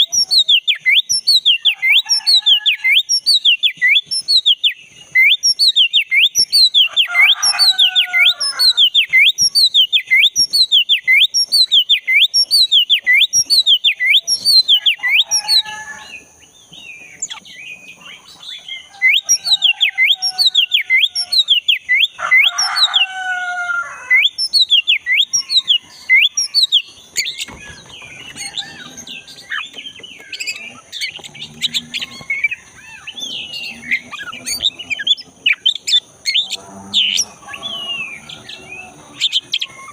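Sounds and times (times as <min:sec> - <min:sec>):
bird whistling song: 0:00.0 - 0:16.2, 0:16.8 - 0:23.1, 0:24.1 - 0:39.9
harsh bird calls: 0:00.0 - 0:39.9.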